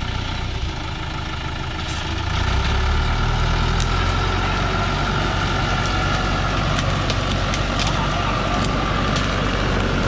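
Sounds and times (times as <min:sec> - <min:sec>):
diesel truck engine: 0:00.0 - 0:10.0.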